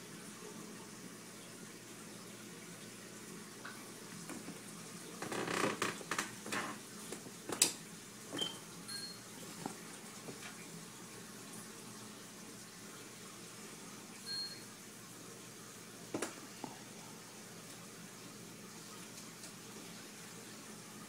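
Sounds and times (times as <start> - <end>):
aquarium filter water trickling: 0.0 - 21.0.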